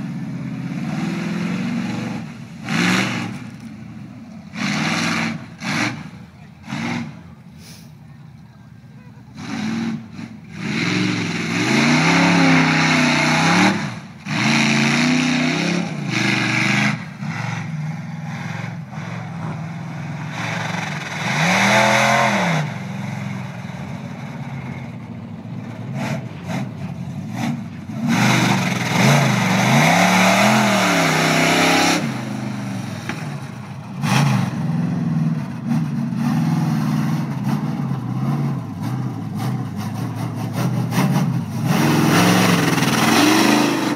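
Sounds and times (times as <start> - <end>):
truck engine revving: 0.0 - 8.4, 9.1 - 43.9.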